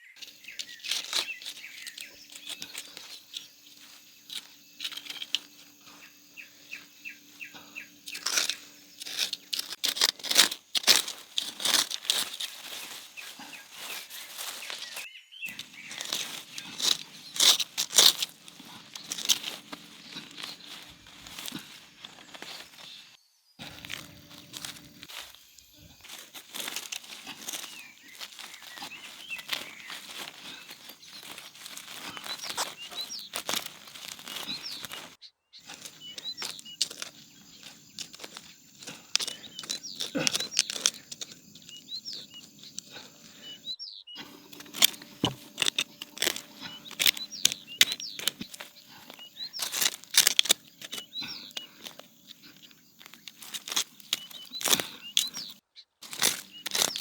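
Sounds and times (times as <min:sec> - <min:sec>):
small birds chirping: 0:00.0 - 0:57.0
dry plants crackling and tearing: 0:00.1 - 0:43.6, 0:44.2 - 0:57.0.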